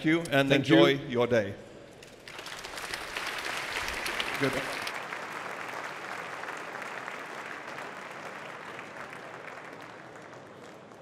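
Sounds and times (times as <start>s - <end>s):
large audience applauding: 2.1s - 11.0s.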